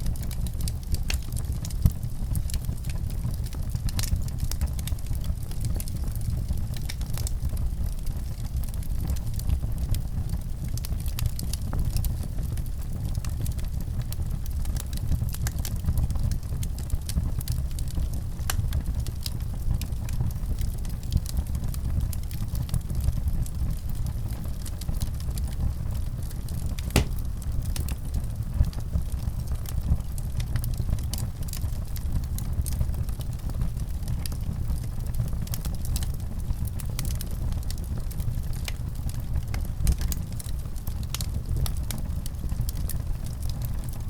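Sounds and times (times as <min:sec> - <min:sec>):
low fire rumble: 0:00.0 - 0:44.0
wood fire crackling and popping: 0:00.0 - 0:44.0.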